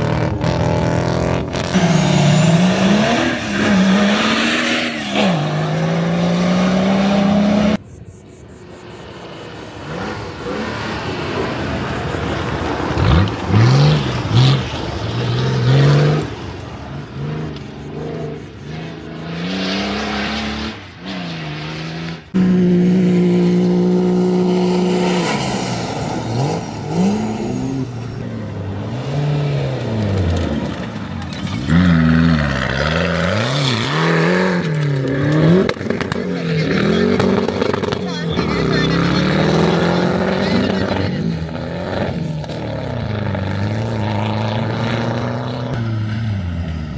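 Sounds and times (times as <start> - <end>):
off-road vehicle engines revving: 0.0 - 46.9.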